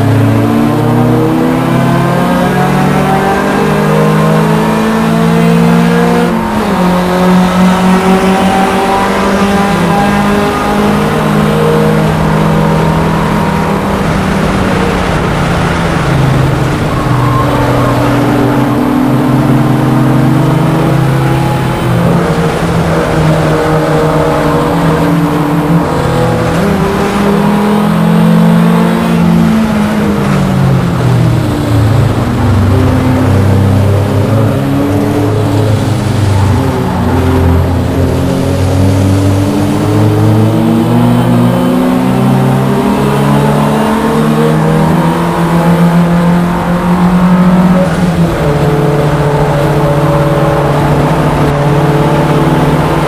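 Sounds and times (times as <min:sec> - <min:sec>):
race car engine running hard: 0:00.0 - 0:53.0
road and wind noise: 0:00.0 - 0:53.0.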